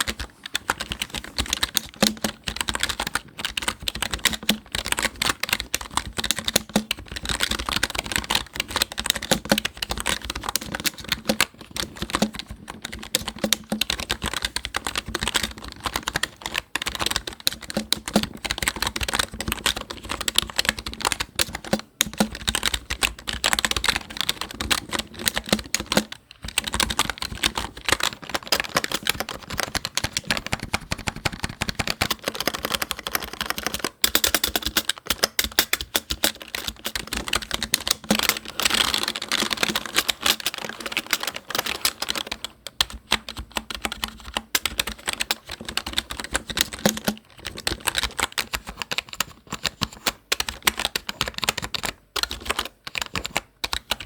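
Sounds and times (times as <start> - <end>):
fast typing on a keyboard: 0.0 - 54.0.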